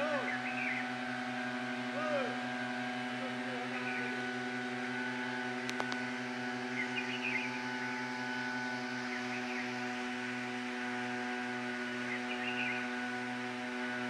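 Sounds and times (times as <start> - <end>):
tea harvester engine droning: 0.0 - 14.0.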